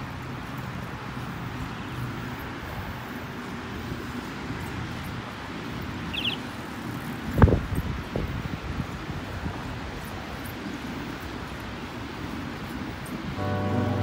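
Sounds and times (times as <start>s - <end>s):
bicycle tyre noise on pavement: 0.0s - 14.0s
wind on microphone: 2.2s - 14.0s.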